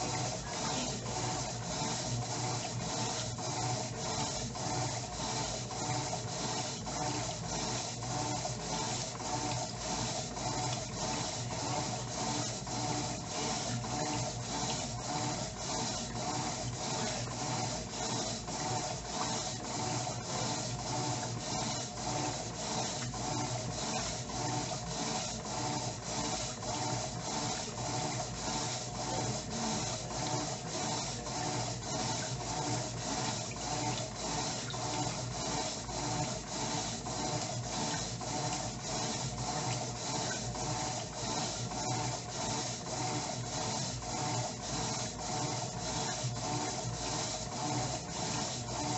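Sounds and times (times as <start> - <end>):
washing machine agitating: 0.0 - 48.9.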